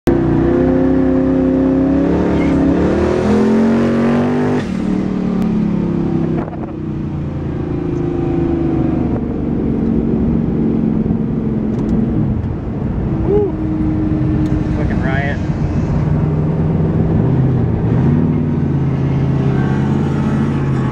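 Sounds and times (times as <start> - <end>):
car engine accelerating: 0.1 - 20.9.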